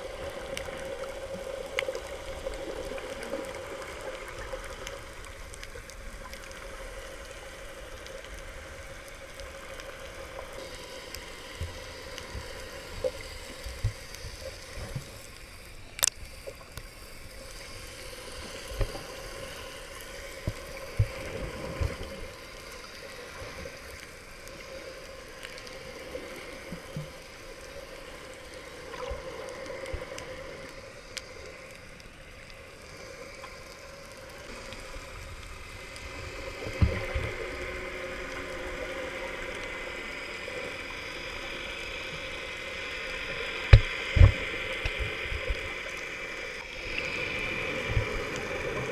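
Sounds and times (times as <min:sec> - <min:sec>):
muffled underwater water wash: 0:00.0 - 0:48.9.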